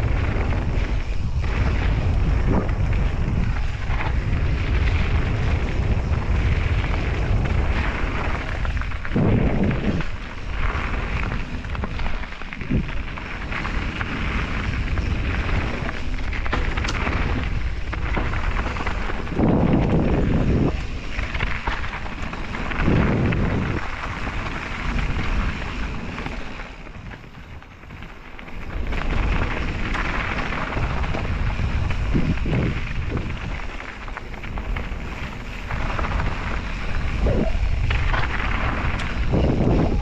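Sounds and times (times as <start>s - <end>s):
bike rattling: 0.0s - 40.0s
tyres crunching over gravel: 0.0s - 40.0s
wind rumble on microphone: 0.0s - 40.0s.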